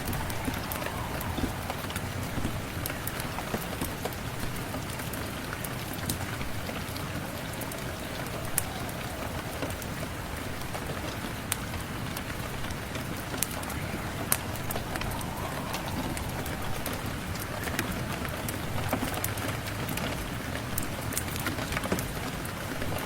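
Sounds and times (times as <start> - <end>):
rain falling: 0.0 - 23.0
sharp ticks of raindrops: 0.0 - 23.0.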